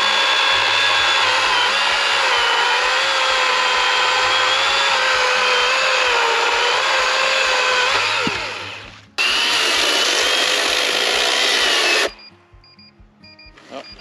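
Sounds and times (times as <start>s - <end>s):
electric chainsaw cutting wood: 0.0s - 12.2s.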